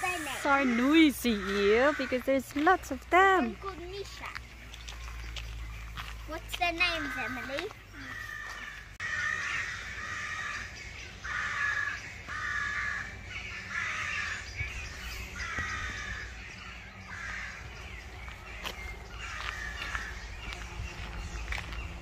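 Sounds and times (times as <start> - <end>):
crows cawing: 0.0 - 3.4, 6.0 - 20.6.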